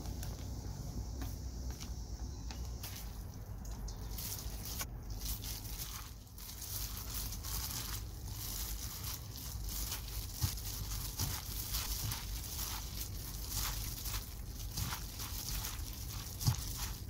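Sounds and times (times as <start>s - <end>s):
plastic glove crinkling: 2.7s - 17.0s
noodles squishing: 2.8s - 17.0s.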